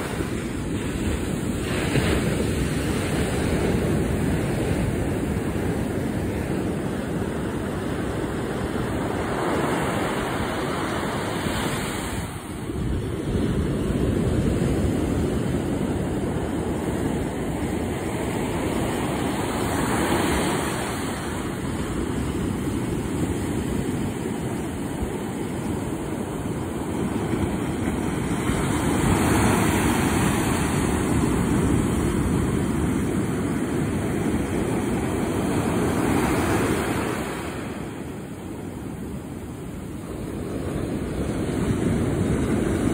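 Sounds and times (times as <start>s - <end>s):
ocean surf breaking on beach: 0.0s - 42.9s
wind rumbling on microphone: 0.0s - 42.9s.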